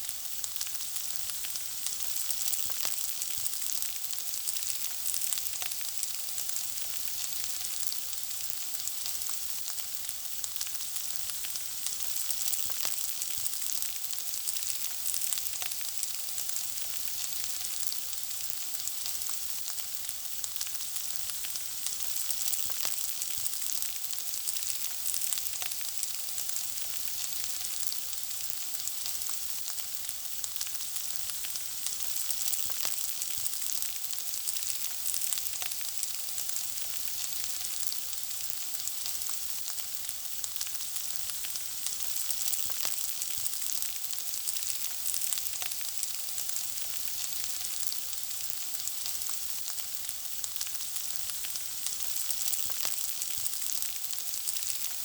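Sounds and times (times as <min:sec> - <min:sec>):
food sizzling in hot oil: 0:00.0 - 0:55.0.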